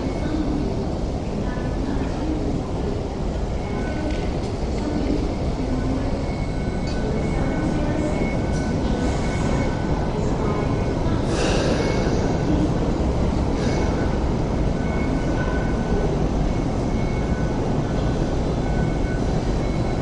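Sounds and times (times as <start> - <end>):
light rail train rumbling: 0.0 - 20.0.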